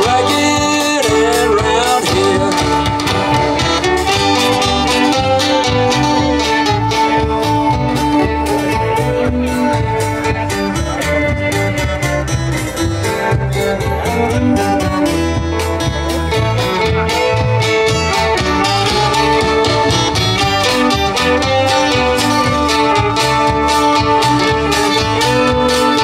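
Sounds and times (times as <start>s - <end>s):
bass: 0.0s - 26.0s
fiddle: 0.0s - 26.0s
mandolin: 0.0s - 26.0s
percussion: 0.0s - 26.0s
strummed cuatro: 0.0s - 26.0s.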